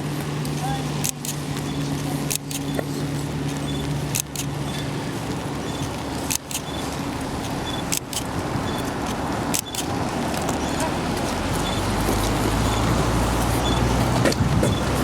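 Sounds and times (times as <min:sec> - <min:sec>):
hiss of passing vehicles: 0:00.0 - 0:15.0
low engine rumble: 0:00.0 - 0:15.0.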